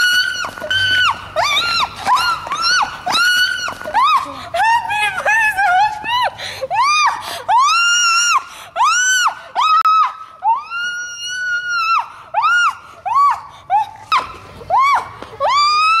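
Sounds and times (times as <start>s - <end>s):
woman screaming: 0.0s - 16.0s.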